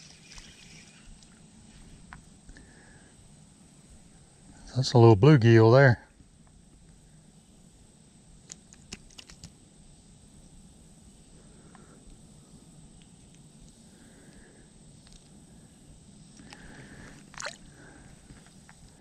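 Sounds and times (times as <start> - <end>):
faint low background noise: 0.0 - 19.0.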